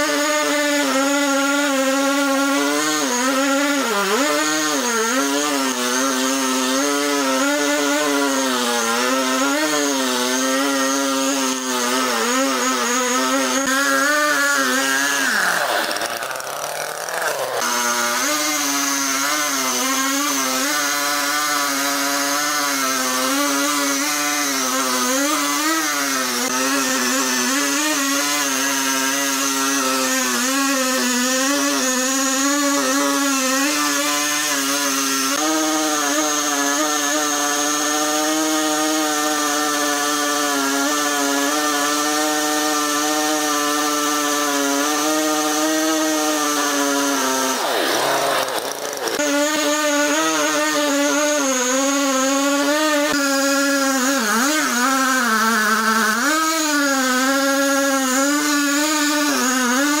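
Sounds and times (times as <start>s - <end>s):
wood-cutting saw whining: 0.0s - 60.0s.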